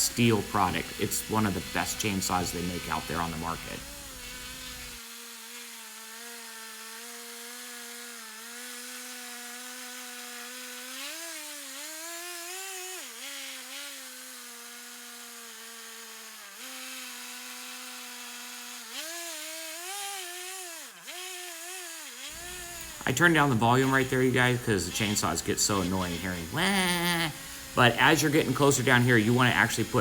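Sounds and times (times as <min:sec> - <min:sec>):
chainsaw cutting a log: 0:00.0 - 0:30.0.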